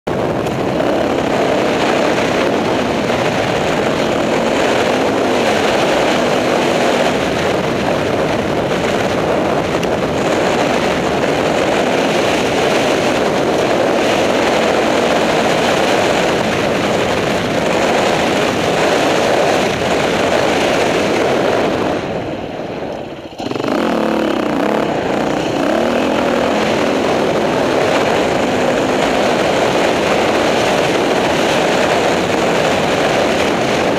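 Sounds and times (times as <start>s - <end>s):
wind noise: 0.0s - 33.9s
dirt bike engine running: 0.1s - 33.9s.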